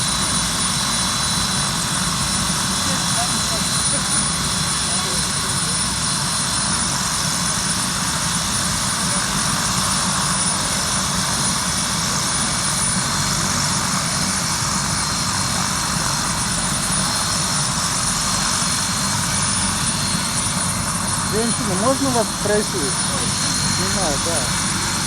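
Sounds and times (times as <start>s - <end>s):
helicopter rotor and engine: 0.0s - 25.0s.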